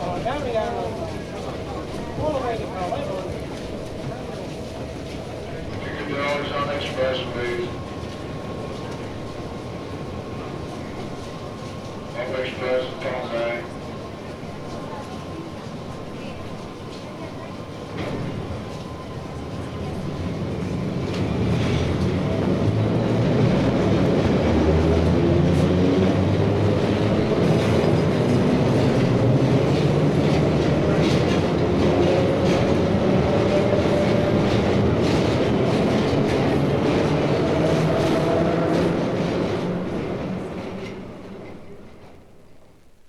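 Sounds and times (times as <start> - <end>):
subway train motors whining: 0.0 - 43.0.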